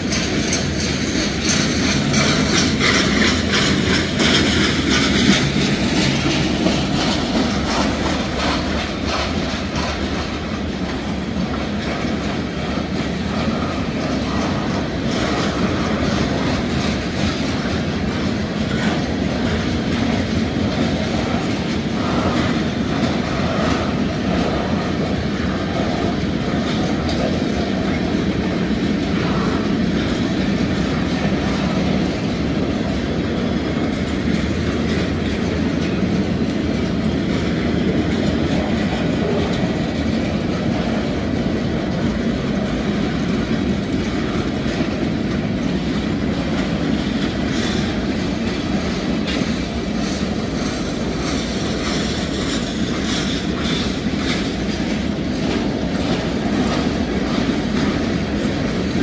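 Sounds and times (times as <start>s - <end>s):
freight train wheels rumbling on rail: 0.0s - 59.0s
wheels clickety-clack over rail joints: 0.0s - 59.0s.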